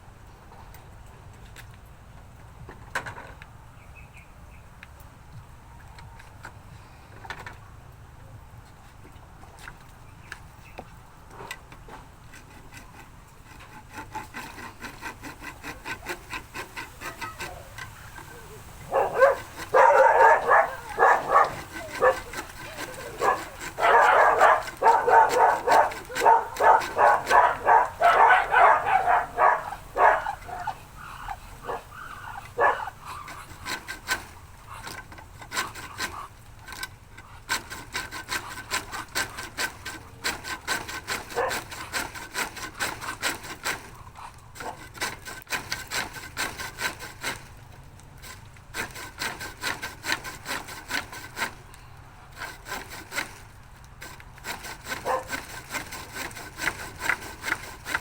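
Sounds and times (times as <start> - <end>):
hand saw strokes: 11.3 - 58.0.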